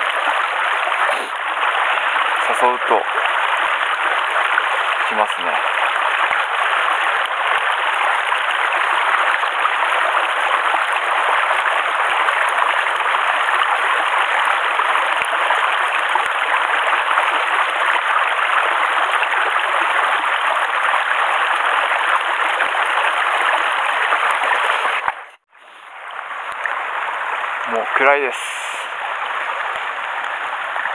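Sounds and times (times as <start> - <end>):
rain falling on water: 0.0 - 30.9
stream running over rocks: 0.0 - 30.9.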